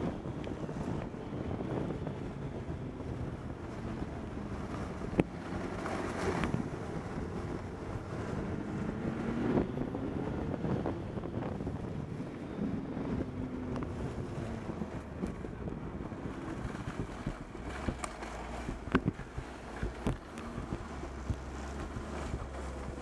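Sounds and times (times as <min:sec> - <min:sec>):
low travel rumble: 0:00.0 - 0:23.0
wind buffeting microphone: 0:00.0 - 0:23.0.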